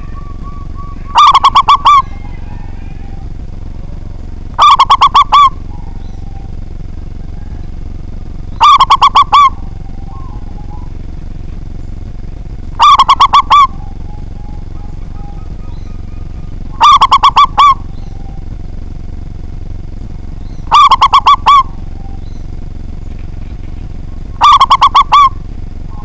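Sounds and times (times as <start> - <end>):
dove cooing: 0.0 - 26.0
steady low background hum: 0.0 - 26.0.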